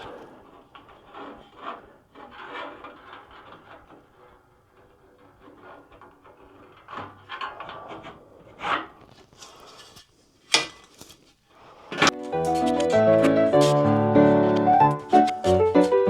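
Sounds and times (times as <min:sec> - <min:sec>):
wooden boards rubbing and scraping: 0:00.0 - 0:10.1, 0:11.9 - 0:16.0.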